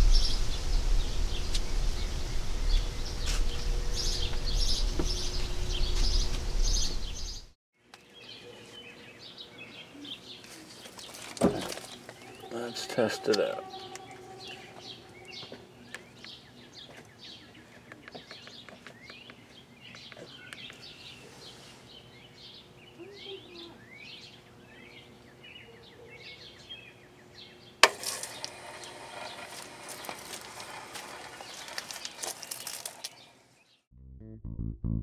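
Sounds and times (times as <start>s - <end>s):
small birds chirping: 0.0s - 28.6s, 31.3s - 33.9s.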